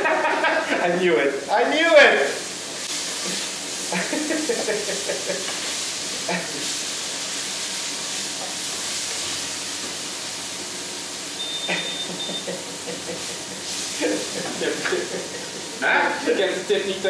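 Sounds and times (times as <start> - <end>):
sauce sizzling in a pan: 0.0 - 17.0.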